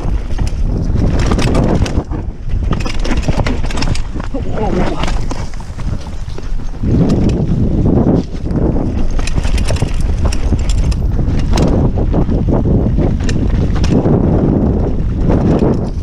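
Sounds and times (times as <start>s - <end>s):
bike clacks and rattles: 0.0s - 16.0s
tyres rumbling over dirt: 0.0s - 16.0s
wind buffeting microphone: 0.0s - 16.0s.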